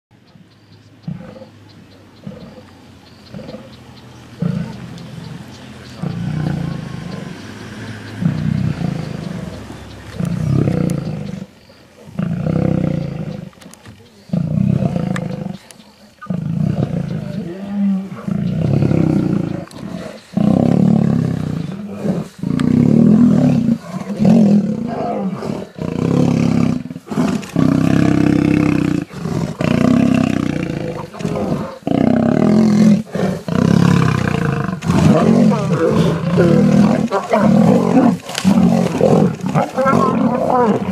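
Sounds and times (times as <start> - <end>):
lions growling and roaring: 1.0 - 1.6, 2.2 - 40.9.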